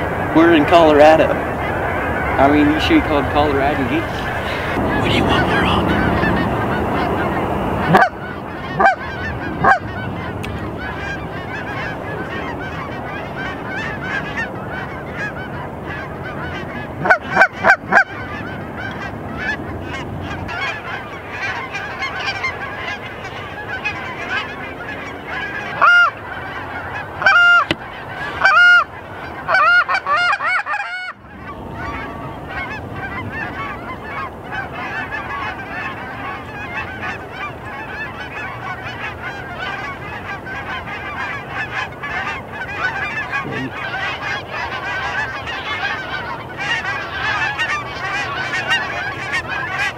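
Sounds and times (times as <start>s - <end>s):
geese honking: 0.0s - 49.9s.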